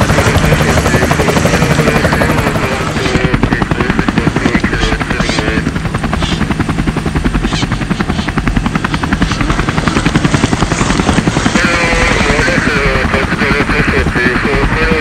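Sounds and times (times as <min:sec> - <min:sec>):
helicopter rotor chop: 0:00.0 - 0:15.0.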